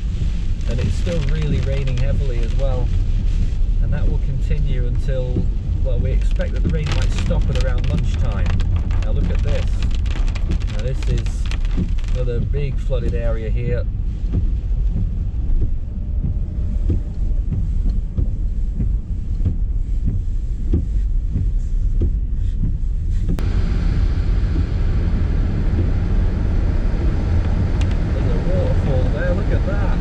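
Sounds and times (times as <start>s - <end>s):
engine and road rumble: 0.0s - 30.0s
heavy rain on car: 0.0s - 30.0s
water spray rushing from tyres: 0.0s - 30.0s.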